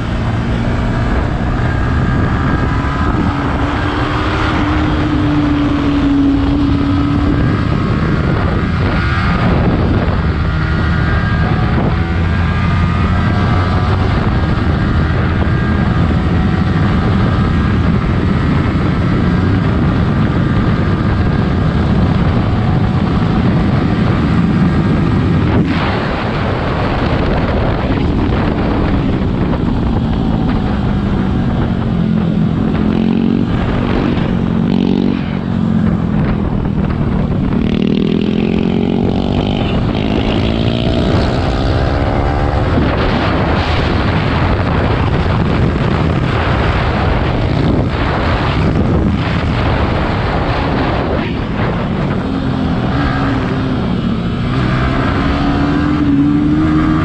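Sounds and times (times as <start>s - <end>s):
motorcycle engine: 0.0s - 57.0s
wind rush: 0.0s - 57.0s.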